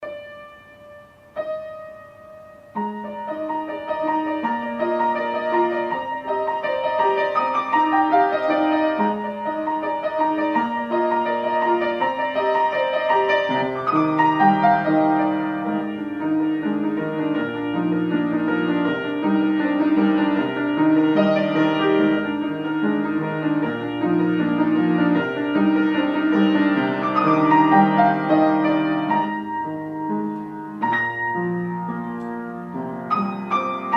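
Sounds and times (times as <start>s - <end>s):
piano music: 0.0s - 33.9s.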